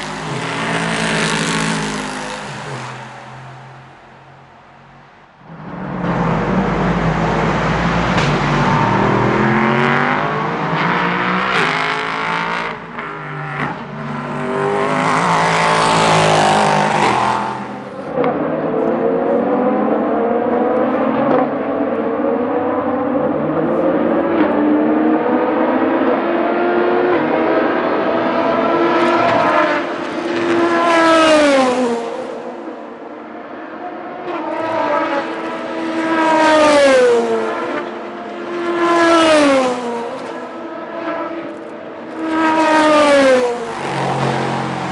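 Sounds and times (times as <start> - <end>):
race cars passing at speed: 0.0 - 44.9.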